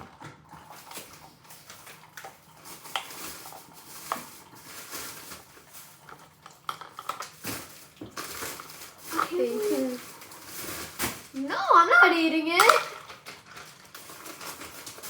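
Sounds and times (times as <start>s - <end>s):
ice pieces clicking and clinking: 1.0s - 15.0s.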